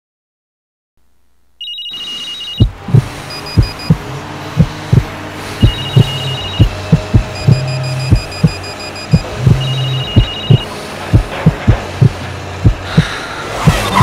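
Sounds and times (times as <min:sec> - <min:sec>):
rapid electronic beeping: 0:01.6 - 0:14.0
heartbeat thumps: 0:02.6 - 0:14.0.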